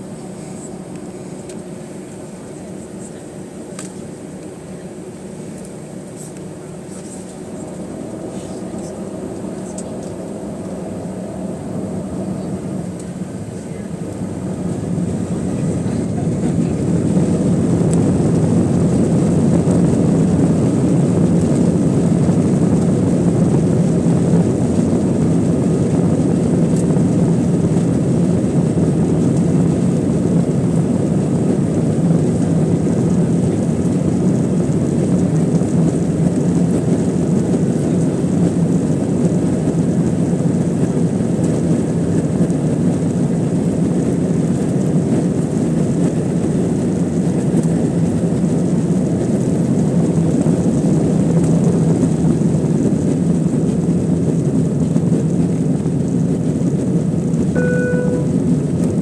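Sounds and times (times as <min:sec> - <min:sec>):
jet engine cabin noise: 0:00.0 - 0:59.0.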